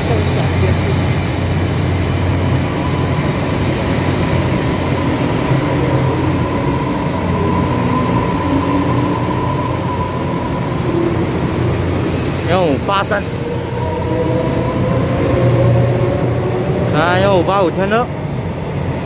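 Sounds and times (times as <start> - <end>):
train cars rumbling past: 0.0 - 19.0.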